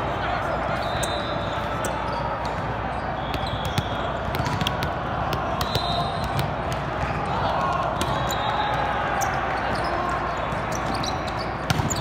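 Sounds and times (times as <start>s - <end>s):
murmur of voices: 0.0s - 12.0s
volleyballs being hit and bouncing: 1.7s - 12.0s.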